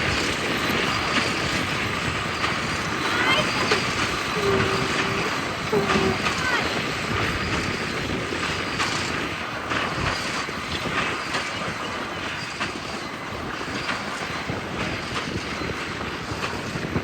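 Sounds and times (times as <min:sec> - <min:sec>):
harvest machinery rumbling: 0:00.0 - 0:16.9.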